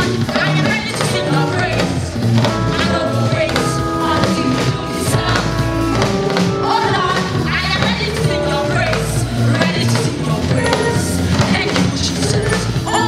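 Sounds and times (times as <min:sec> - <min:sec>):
electric guitar: 0:00.0 - 0:12.4
drum kit: 0:00.0 - 0:13.0
women's choir singing: 0:00.3 - 0:13.0.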